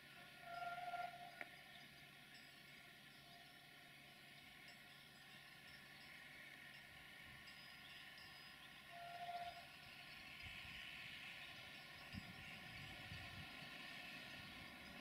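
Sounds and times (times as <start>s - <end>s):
distant train running: 0.0s - 15.0s.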